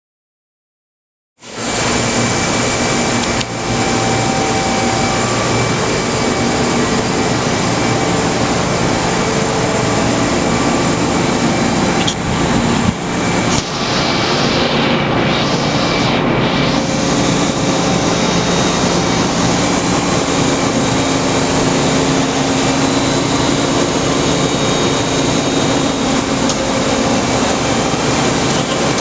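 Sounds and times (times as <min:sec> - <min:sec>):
machining center running: 0:01.4 - 0:29.0.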